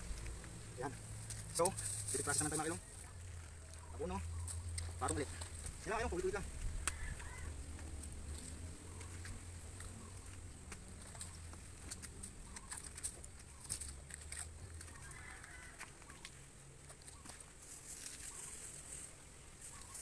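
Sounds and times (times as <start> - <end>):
low steady hum: 0.0 - 17.6
soft clicks and rustles of strips: 0.0 - 20.0.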